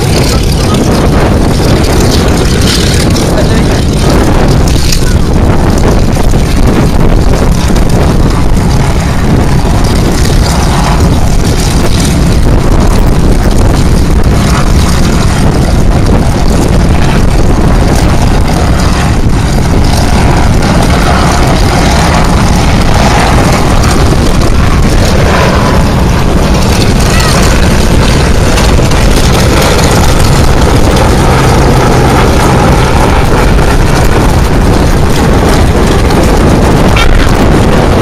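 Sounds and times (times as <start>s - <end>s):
strong wind buffeting microphone: 0.0s - 38.0s.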